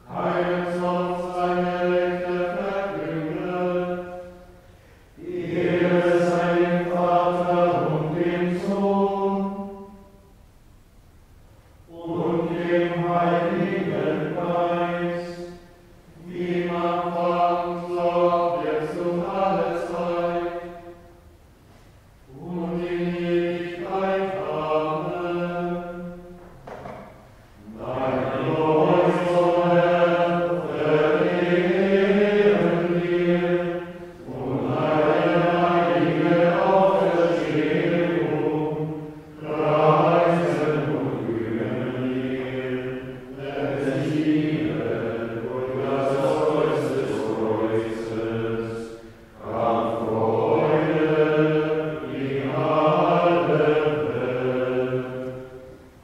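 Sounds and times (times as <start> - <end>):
male choir chanting in unison: 0.0 - 10.1, 11.9 - 21.2, 22.3 - 56.0.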